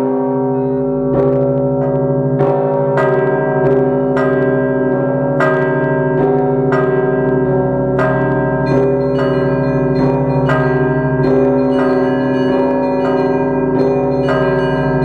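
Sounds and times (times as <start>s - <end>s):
church bells ringing: 0.0s - 15.0s
hum of large bells: 0.0s - 15.0s.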